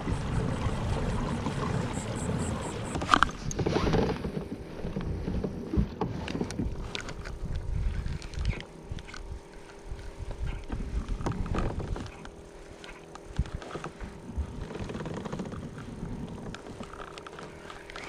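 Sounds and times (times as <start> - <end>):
wind on microphone: 0.0 - 12.3, 13.3 - 17.1
water lapping against kayak hull: 0.0 - 18.0.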